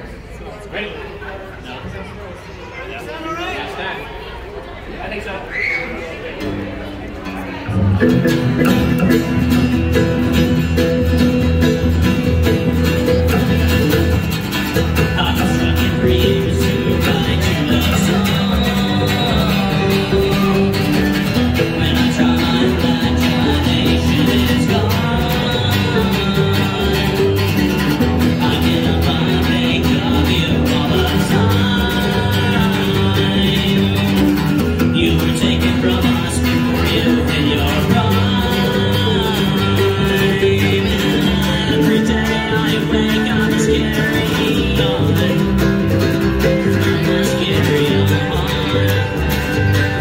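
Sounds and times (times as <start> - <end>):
acoustic guitar: 5.5 - 50.0
mandolin: 6.4 - 50.0
plucked upright bass: 6.4 - 50.0.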